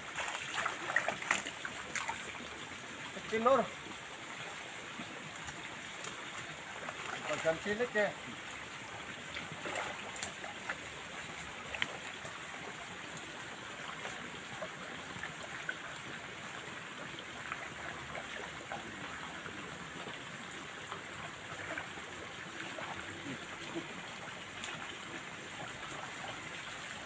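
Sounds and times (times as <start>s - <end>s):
water-like outdoor hiss: 0.0s - 27.0s.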